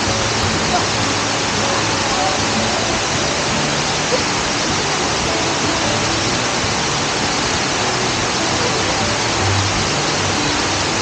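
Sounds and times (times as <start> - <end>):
waterfall splashing on rocks: 0.0 - 11.0.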